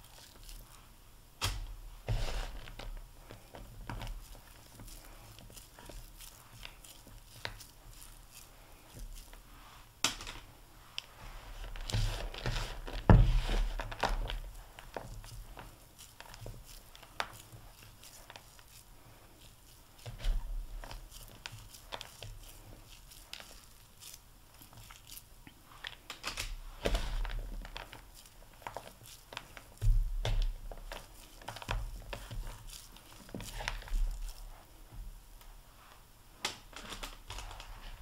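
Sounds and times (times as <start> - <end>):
hands crunching crumbly mixture: 0.0 - 38.0.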